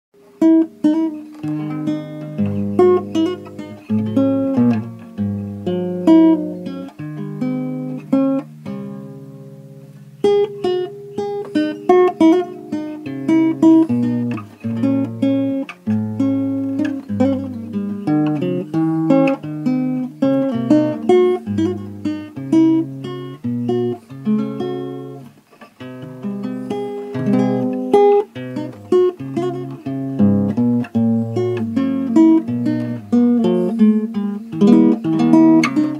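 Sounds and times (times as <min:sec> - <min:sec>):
acoustic guitar music: 0:00.2 - 0:35.9.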